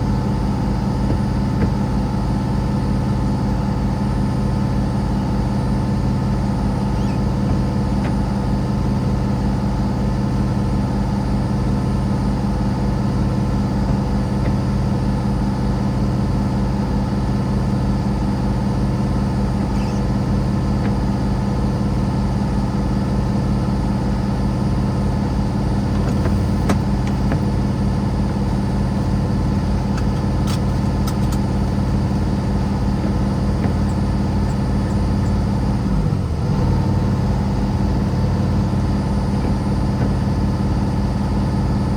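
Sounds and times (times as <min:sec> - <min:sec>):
vehicle engine humming: 0:00.0 - 0:41.9.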